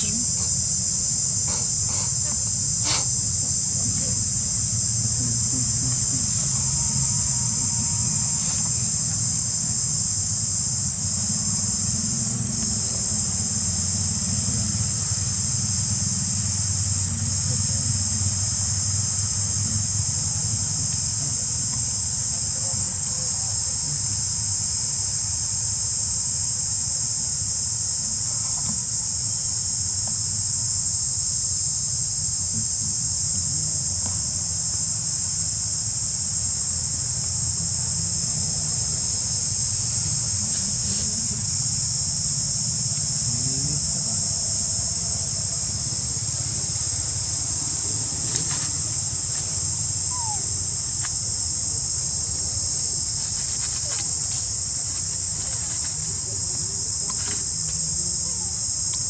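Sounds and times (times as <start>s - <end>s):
insect chorus buzzing: 0.0s - 59.0s.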